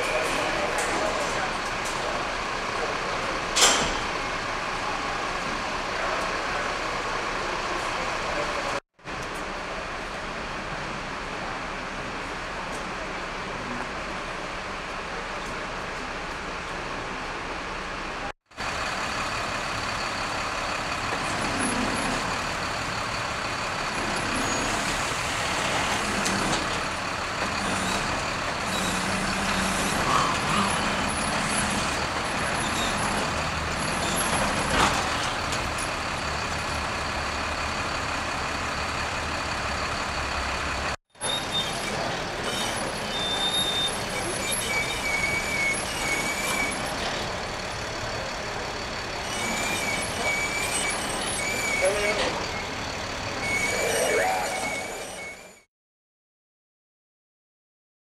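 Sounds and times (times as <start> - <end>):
heavy truck engine running: 0.0 - 55.7
street noise: 0.0 - 55.7.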